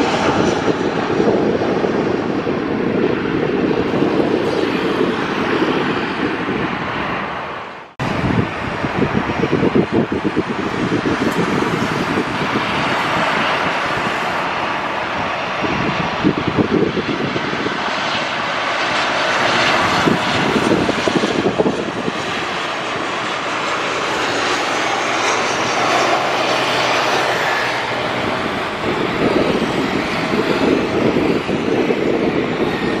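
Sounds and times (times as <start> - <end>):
jet airliner landing: 0.0 - 33.0.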